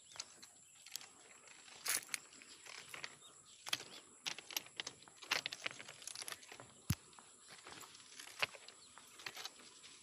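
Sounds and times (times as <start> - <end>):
sharp crackles and rustles: 0.0 - 10.0.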